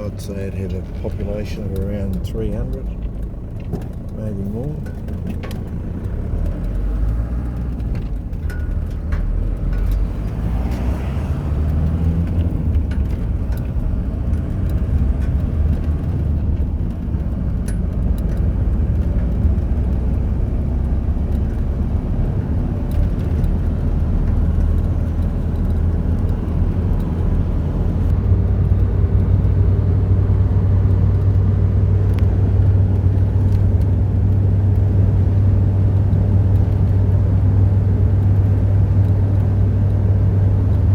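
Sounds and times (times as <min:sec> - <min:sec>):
car engine and road drone: 0:00.0 - 0:40.9.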